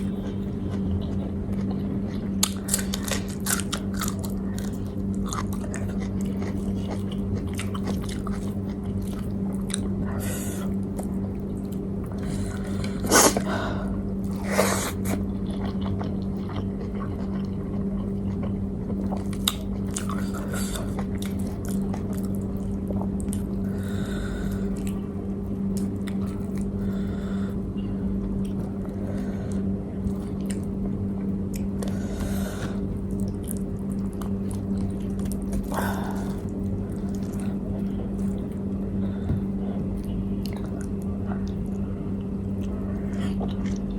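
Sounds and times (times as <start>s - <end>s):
low hum: 0.0s - 43.9s
person chewing food: 0.0s - 43.9s.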